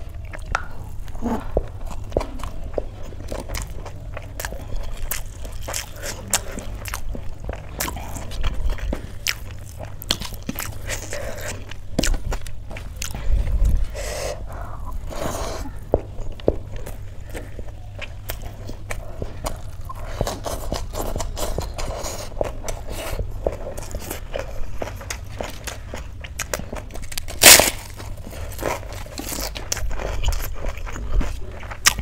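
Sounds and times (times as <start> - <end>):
wet chewing with crunching: 0.0 - 32.0.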